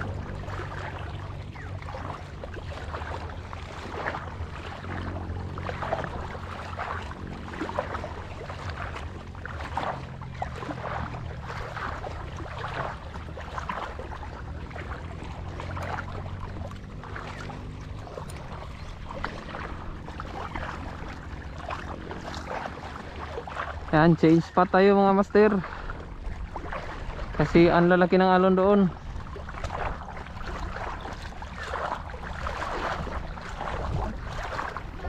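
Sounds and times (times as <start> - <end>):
boat motor humming: 0.0 - 35.0
water splashing: 0.0 - 35.0.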